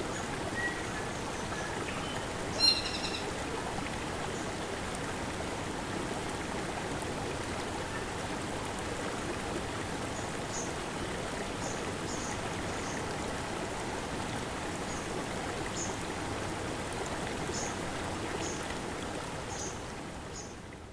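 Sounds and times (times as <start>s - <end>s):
stream flowing over boulders: 0.0s - 20.4s.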